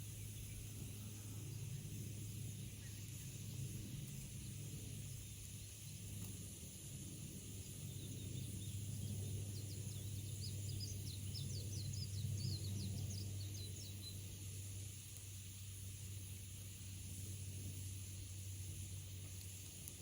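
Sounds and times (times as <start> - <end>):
songbird chirping: 0.0 - 6.4, 7.4 - 20.0
low background rumble: 0.0 - 20.0.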